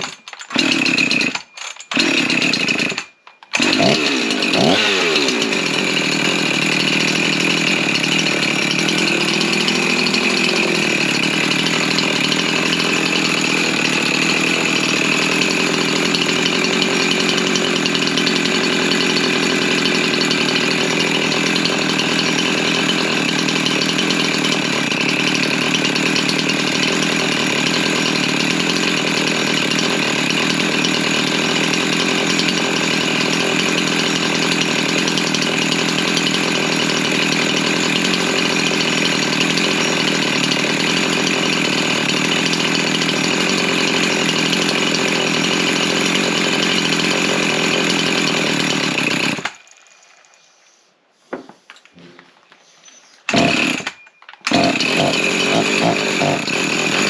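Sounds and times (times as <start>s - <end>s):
chainsaw engine running: 0.0s - 50.0s, 53.3s - 57.0s.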